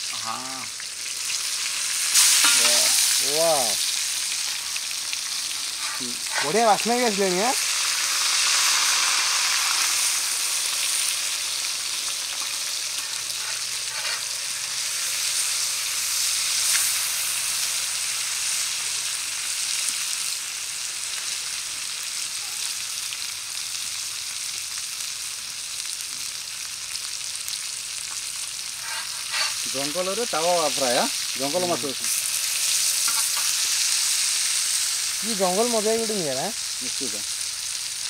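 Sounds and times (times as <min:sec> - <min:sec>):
fish sizzling in hot oil: 0:00.0 - 0:38.0.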